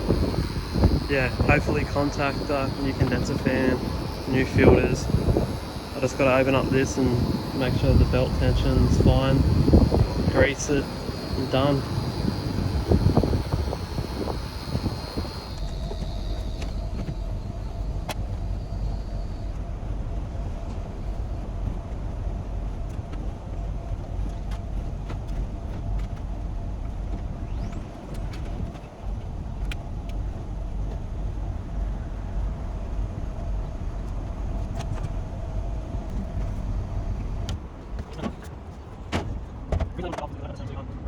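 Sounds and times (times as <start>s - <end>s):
air conditioning unit running: 0.0s - 41.0s.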